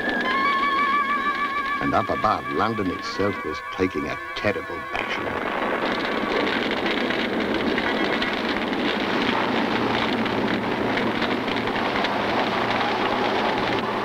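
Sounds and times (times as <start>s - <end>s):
large fire rushing and crackling: 0.0s - 14.0s.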